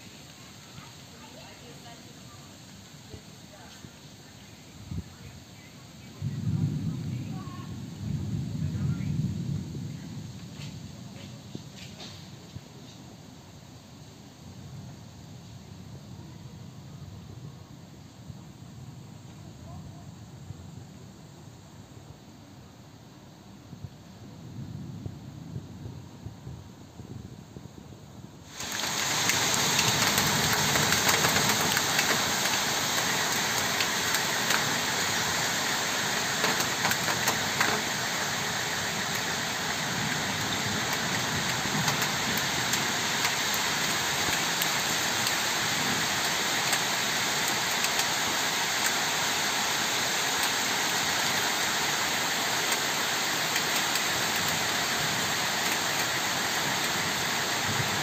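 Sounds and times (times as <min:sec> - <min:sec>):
heavy rain through trees: 0:00.0 - 0:58.0
wind: 0:00.0 - 0:58.0.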